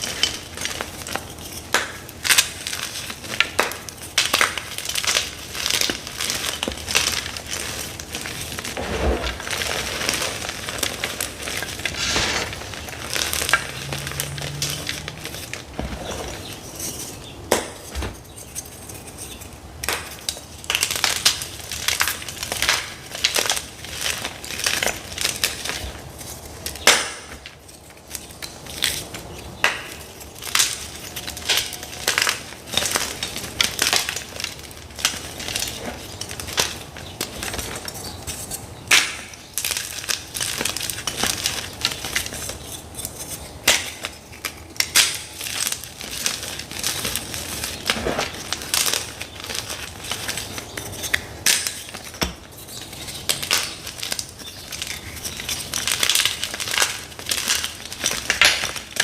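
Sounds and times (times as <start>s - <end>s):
chalk blocks crunching: 0.0s - 59.0s.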